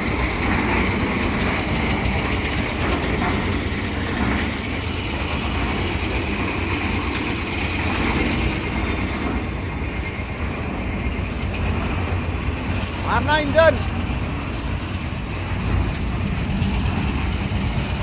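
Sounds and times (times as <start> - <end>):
concrete mixer diesel engine running: 0.0 - 18.0.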